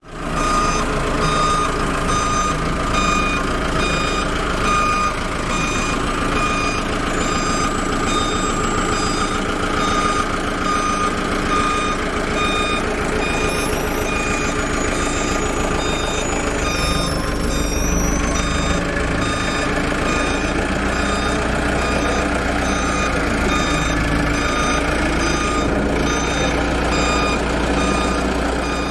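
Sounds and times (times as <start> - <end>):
truck engine running: 0.0 - 28.9
truck reversing alarm beeping: 0.1 - 28.9.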